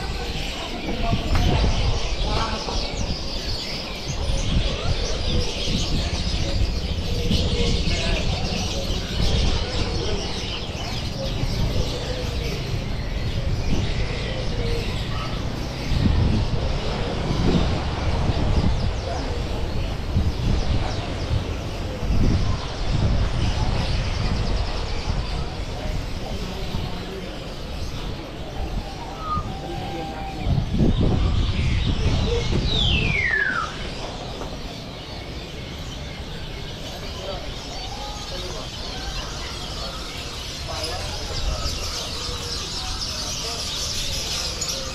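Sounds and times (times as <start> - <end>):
caged birds chirping: 0.0 - 44.9
indistinct voices: 0.0 - 44.9
low street rumble: 0.0 - 44.9
songbirds whistling: 0.0 - 44.9.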